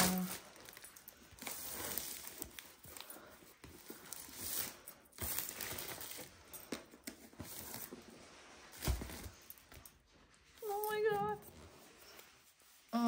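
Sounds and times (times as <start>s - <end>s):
wrapping crinkling: 0.0s - 13.0s.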